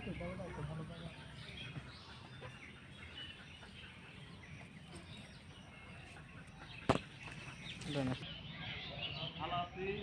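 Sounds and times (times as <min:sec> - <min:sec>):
faint bird chirps and clucks: 0:00.0 - 0:10.0.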